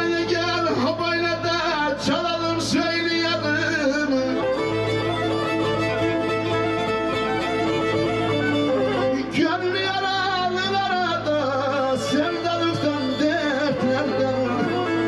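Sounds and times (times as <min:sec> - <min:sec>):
person singing: 0:00.0 - 0:06.0, 0:08.6 - 0:15.0
bowed string instrument: 0:00.0 - 0:15.0.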